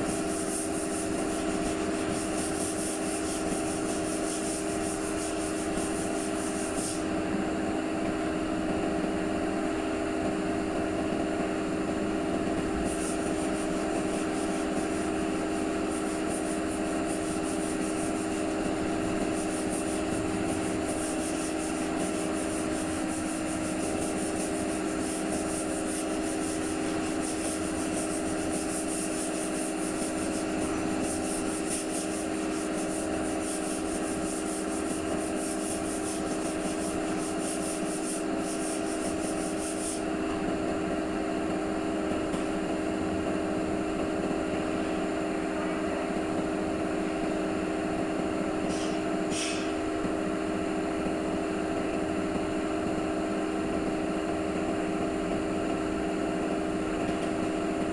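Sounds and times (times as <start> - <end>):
steady machine hum: 0.0 - 57.9.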